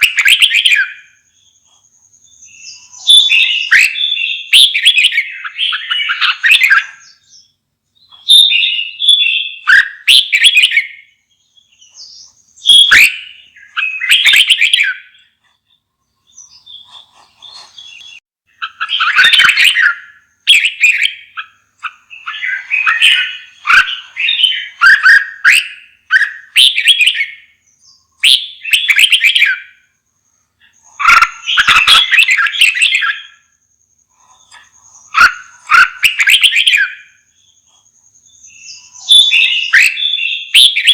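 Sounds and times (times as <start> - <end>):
bird singing warbled phrases: 0.0 - 40.9.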